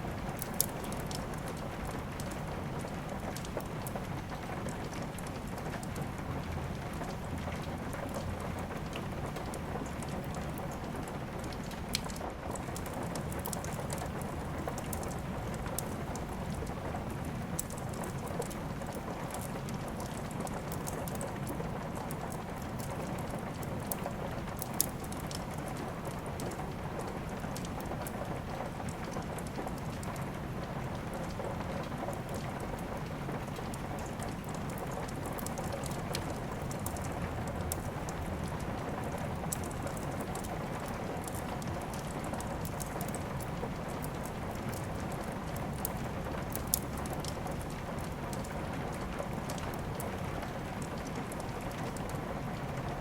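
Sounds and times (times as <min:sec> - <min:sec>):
steady rain falling: 0:00.0 - 0:53.0
wood fire crackling and popping: 0:00.0 - 0:53.0.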